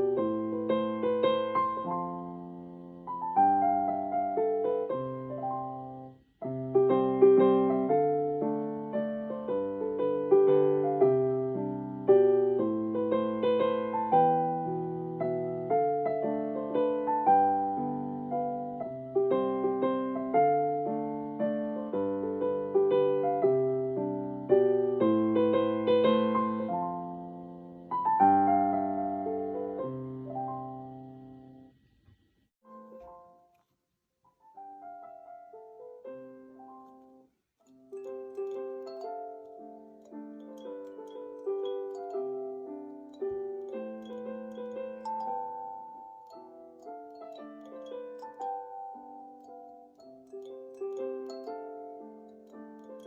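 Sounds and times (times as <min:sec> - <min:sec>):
instrumental music with piano: 0:00.0 - 0:31.9, 0:32.6 - 0:33.7, 0:34.3 - 0:53.0.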